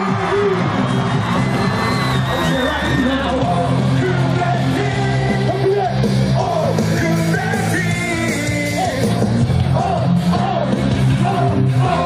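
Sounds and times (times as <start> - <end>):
cheer music with heavy bass: 0.0 - 12.0
crowd singing and yelling: 0.0 - 12.0.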